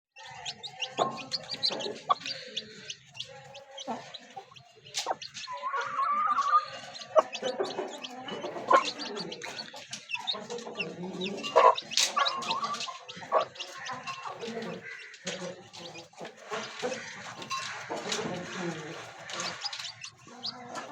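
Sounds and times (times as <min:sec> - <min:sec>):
chickens clucking: 0:00.2 - 0:20.9
chicks peeping: 0:00.2 - 0:20.9.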